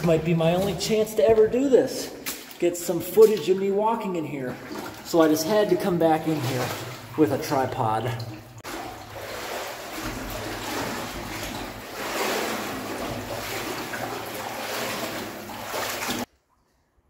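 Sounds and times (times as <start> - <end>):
water sloshing around legs: 0.0 - 16.3.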